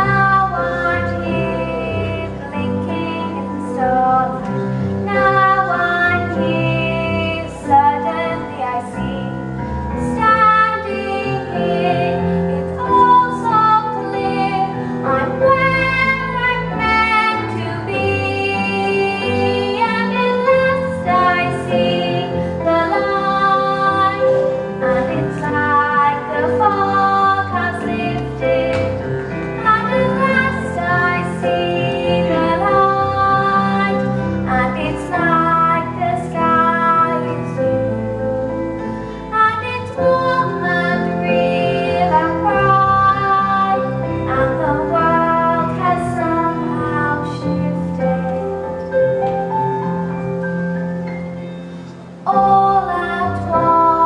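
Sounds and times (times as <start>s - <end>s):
girl singing into microphone: 0.0s - 37.9s, 39.0s - 48.9s, 52.2s - 54.0s
instrumental backing music: 0.0s - 54.0s.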